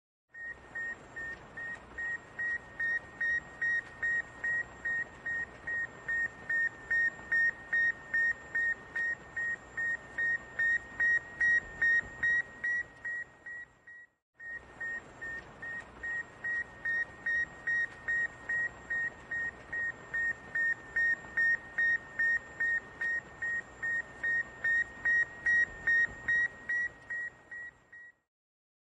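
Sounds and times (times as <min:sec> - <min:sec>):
high repeating radio beep: 0:00.4 - 0:28.2.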